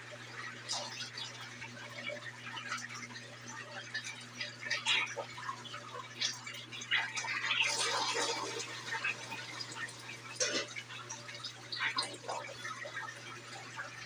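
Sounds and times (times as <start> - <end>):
washing machine hum: 0.0 - 14.0
water splashing in washing machine: 0.0 - 14.0.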